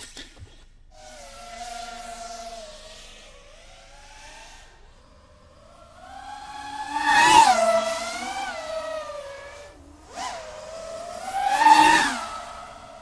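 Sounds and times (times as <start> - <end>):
drone propeller whine: 1.0 - 13.0.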